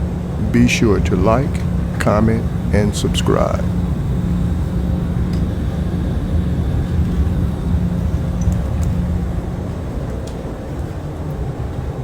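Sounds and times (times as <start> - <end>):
jet cabin rumble and hiss: 0.0 - 12.0.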